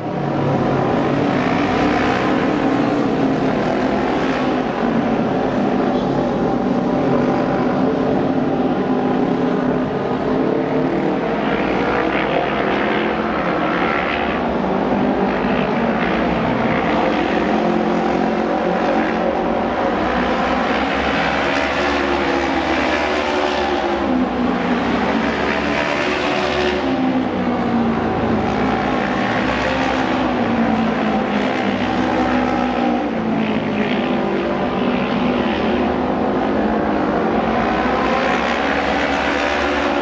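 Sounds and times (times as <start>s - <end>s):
motorcycle engines at high revs: 0.0s - 40.0s.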